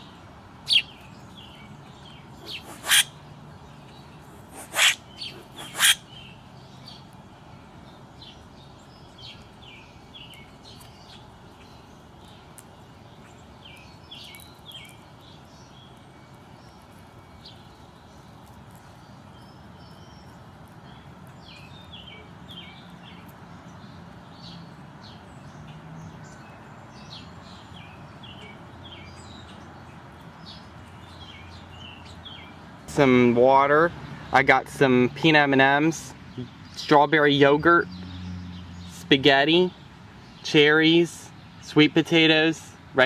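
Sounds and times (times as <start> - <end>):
outdoor background hum: 0.0 - 43.0
small birds chirping: 0.0 - 43.0.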